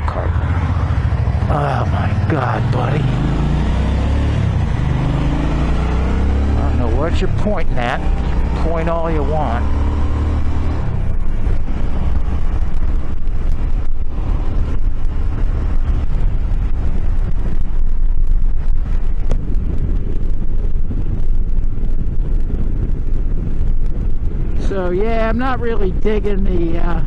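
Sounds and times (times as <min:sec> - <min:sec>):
motorcycle engine running: 0:00.0 - 0:27.0
wind rushing on microphone: 0:00.0 - 0:27.0.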